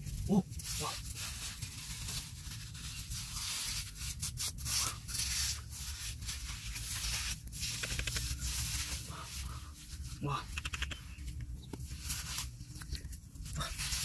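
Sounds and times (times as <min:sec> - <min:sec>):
hands scraping wet sand: 0:00.6 - 0:11.2, 0:11.8 - 0:12.9.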